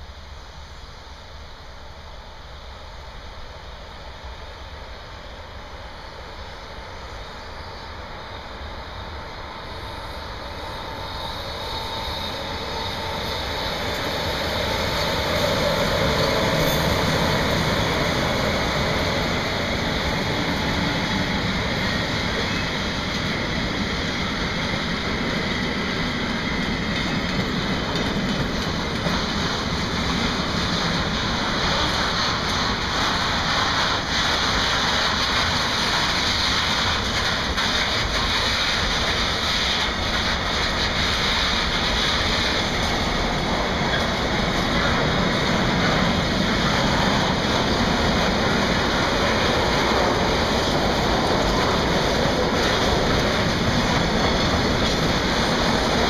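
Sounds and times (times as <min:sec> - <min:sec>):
freight train wheels rumbling and rattling: 0:00.0 - 0:56.0.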